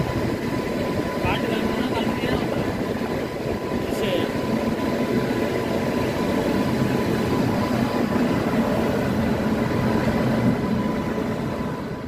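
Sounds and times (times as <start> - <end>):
faint steady whine: 0.0 - 12.0
train wheels rumbling on rail: 0.0 - 12.0.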